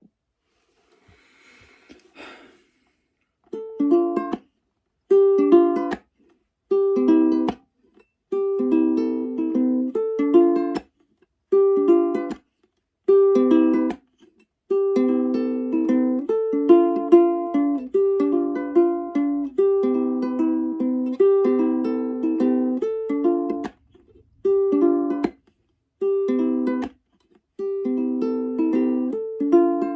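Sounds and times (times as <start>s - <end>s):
plucked string melody: 3.4s - 29.9s.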